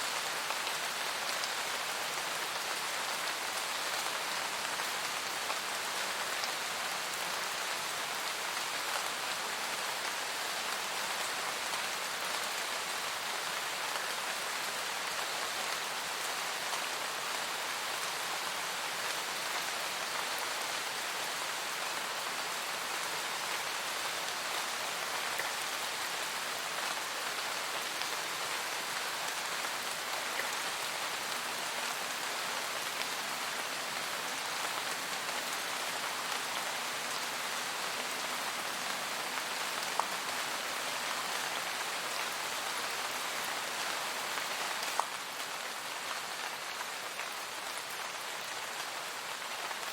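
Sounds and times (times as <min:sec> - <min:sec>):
rain on foliage: 0:00.0 - 0:49.9.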